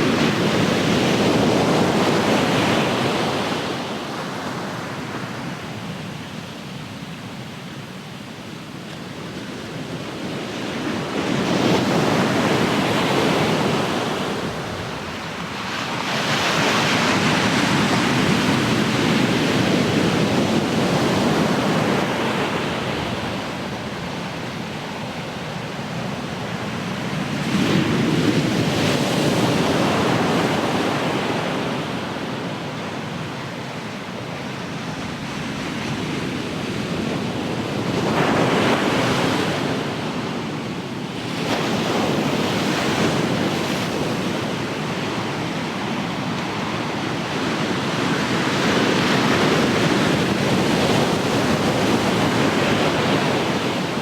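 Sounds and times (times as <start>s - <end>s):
ocean waves breaking ashore: 9.4s - 54.0s.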